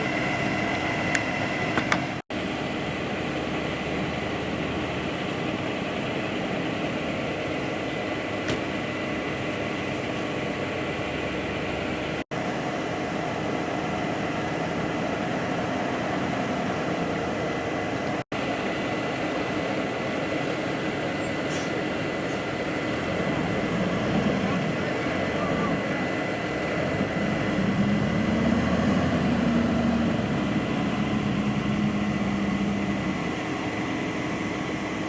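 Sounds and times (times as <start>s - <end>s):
steady machine noise: 0.0s - 35.0s.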